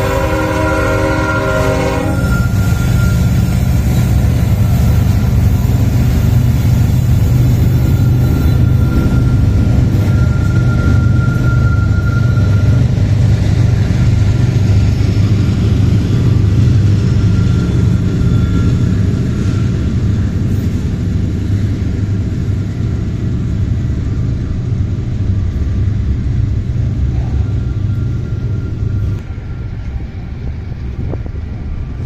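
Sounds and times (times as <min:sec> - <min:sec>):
diesel locomotives rumbling: 0:00.0 - 0:32.0
freight cars rolling on rails: 0:00.0 - 0:32.0.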